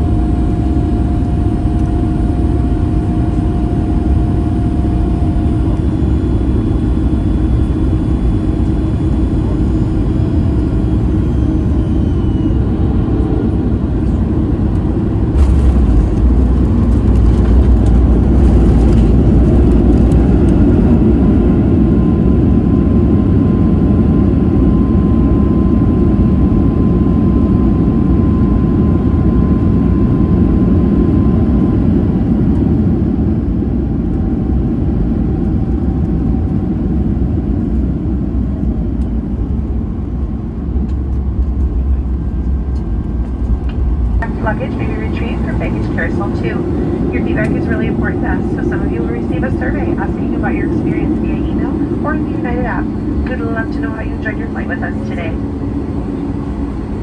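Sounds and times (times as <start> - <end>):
jet engine and airflow roar: 0.0 - 57.0.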